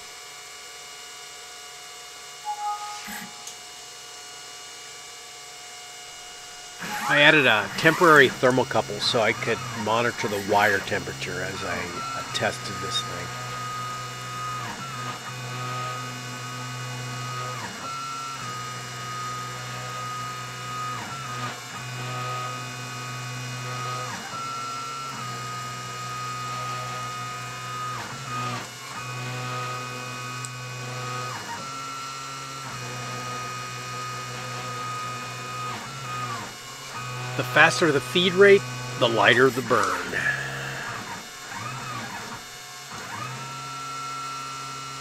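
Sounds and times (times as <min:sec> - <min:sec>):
stepper motors whining: 0:06.1 - 0:32.1, 0:32.7 - 0:45.0.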